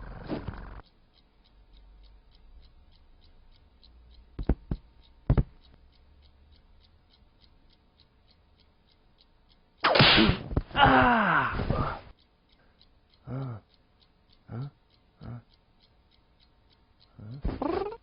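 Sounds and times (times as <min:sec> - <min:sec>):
faint steady ticking: 0:00.0 - 0:18.0.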